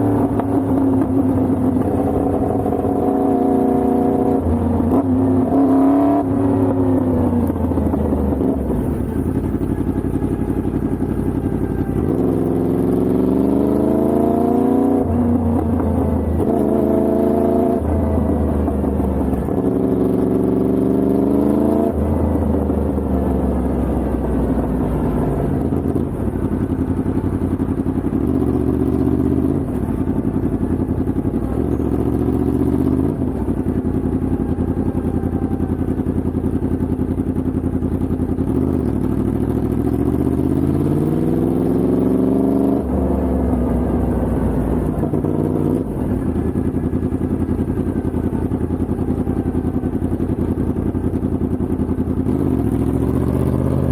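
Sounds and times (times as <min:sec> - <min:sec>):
motorcycle engine accelerating hard: 0:00.0 - 0:53.9.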